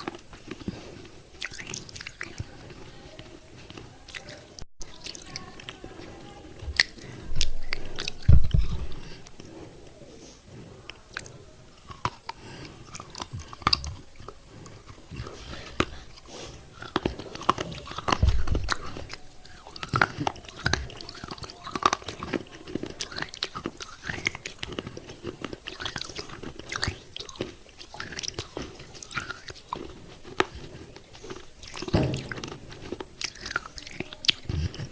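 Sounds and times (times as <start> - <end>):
gritty crunching and chewing: 0.0 - 34.9.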